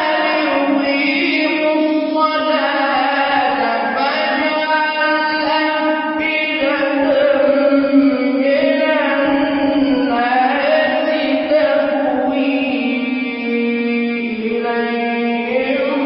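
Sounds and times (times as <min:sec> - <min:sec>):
man chanting a recitation: 0:00.0 - 0:16.0.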